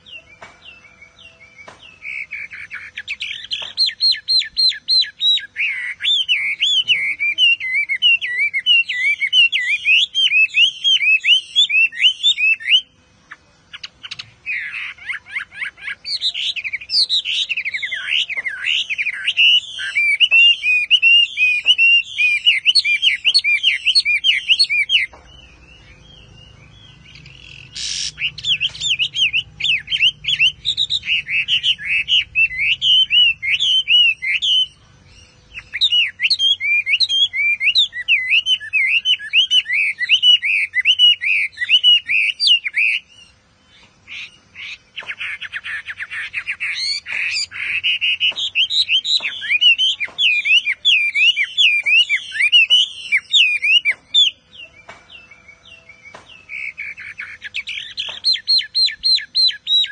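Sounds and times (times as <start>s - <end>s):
songbird singing whistled notes: 0.0s - 59.9s.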